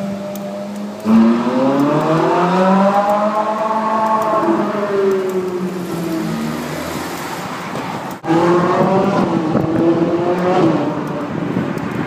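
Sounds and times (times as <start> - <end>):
car engine and exhaust: 0.0 - 12.0.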